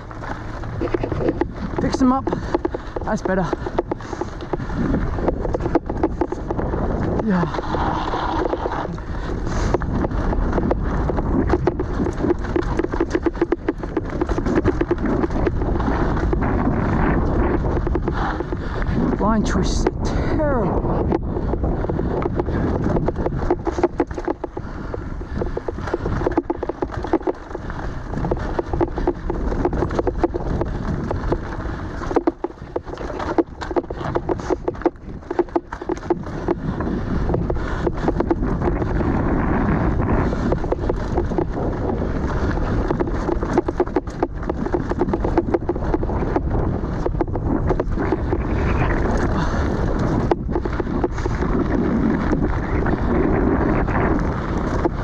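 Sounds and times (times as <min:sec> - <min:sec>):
bike clicks and rattles: 0:00.0 - 0:55.0
tyres rolling on stony dirt: 0:00.0 - 0:55.0
wind buffeting microphone: 0:00.0 - 0:55.0.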